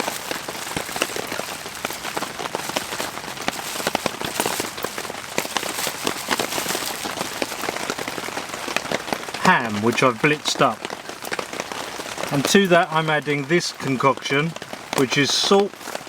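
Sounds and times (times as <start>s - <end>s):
heavy rain on tent: 0.0s - 16.0s.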